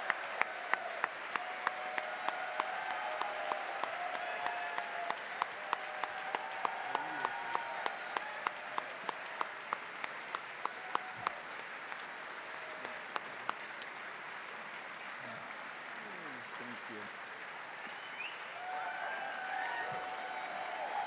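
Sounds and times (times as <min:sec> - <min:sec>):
close hand claps: 0:00.0 - 0:16.0, 0:17.1 - 0:21.0
audience applauding: 0:00.0 - 0:21.0.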